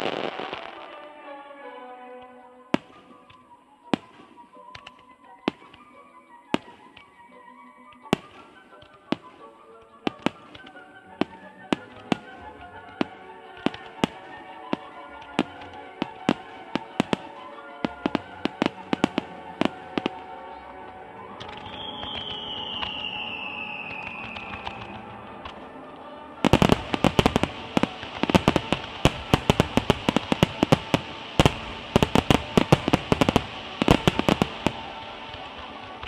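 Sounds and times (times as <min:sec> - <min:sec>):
fireworks bursting in sharp bangs: 0:00.0 - 0:01.0, 0:02.7 - 0:07.2, 0:08.0 - 0:36.0
music with long held notes: 0:00.0 - 0:36.0.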